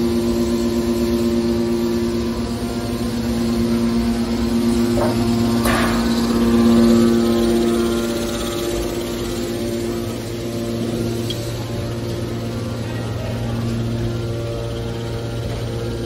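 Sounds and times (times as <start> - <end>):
hydraulic power unit humming: 0.0 - 16.0.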